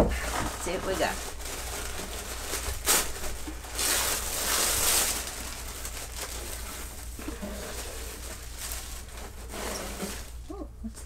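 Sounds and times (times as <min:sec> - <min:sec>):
tissue paper rustling and crinkling: 0:00.0 - 0:10.6.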